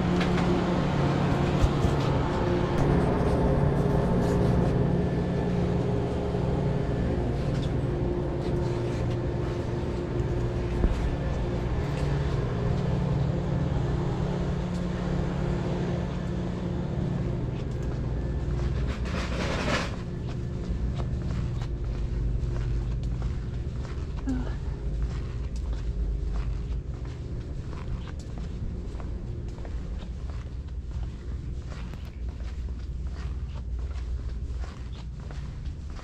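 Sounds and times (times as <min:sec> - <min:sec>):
low shop interior hum: 0:00.0 - 0:36.0.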